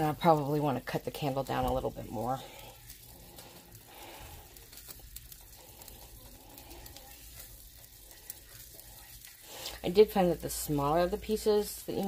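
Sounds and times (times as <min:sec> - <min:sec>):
hot water sizzling and popping: 0:00.0 - 0:12.0.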